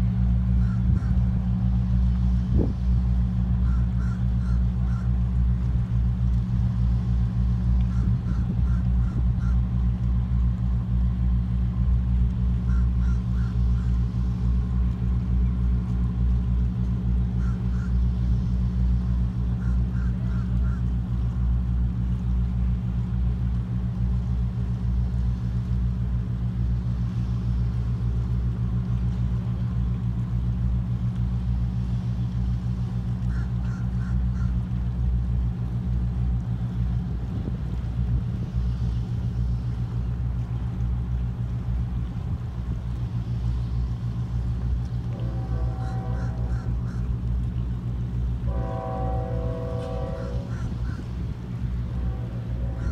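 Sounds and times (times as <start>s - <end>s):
diesel boat engines droning: 0.0s - 52.9s.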